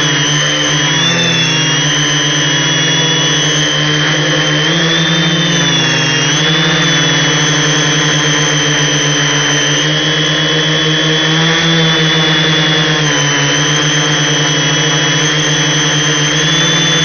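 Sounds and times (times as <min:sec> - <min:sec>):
drone motors whining in flight: 0:00.0 - 0:17.0.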